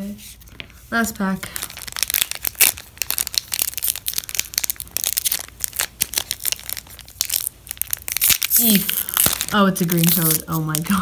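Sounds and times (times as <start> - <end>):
foil wrapper crinkling: 1.4 - 11.0.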